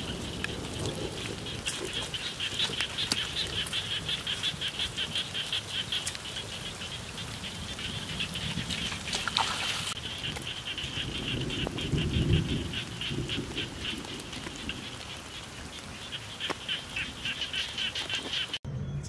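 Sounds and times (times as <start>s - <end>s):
frogs calling in chorus: 0.0s - 18.6s.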